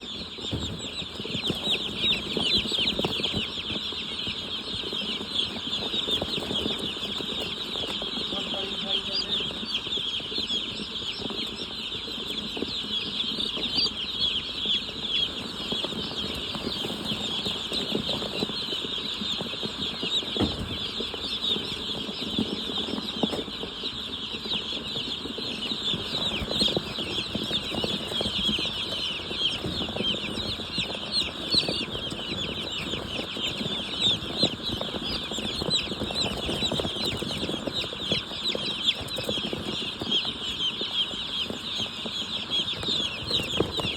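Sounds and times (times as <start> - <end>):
chickens peeping and clucking: 0.0 - 43.9.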